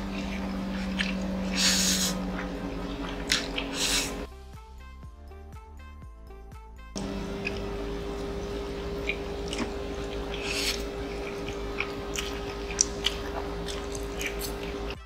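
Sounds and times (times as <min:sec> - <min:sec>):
chewing and mouth clicks: 0:00.0 - 0:04.3, 0:07.0 - 0:15.0
noodle slurp: 0:00.0 - 0:04.3, 0:07.0 - 0:15.0
steady low hum: 0:00.0 - 0:04.3, 0:07.0 - 0:15.0.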